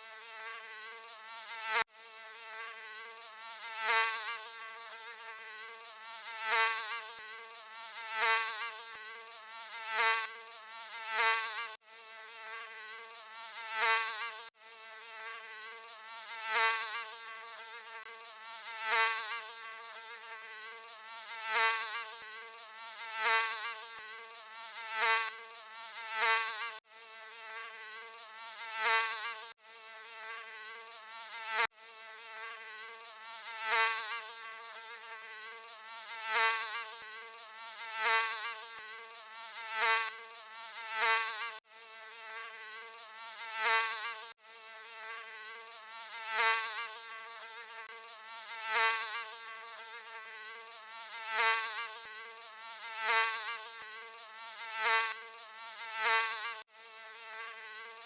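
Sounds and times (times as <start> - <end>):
mosquito buzzing: 0.0 - 58.0.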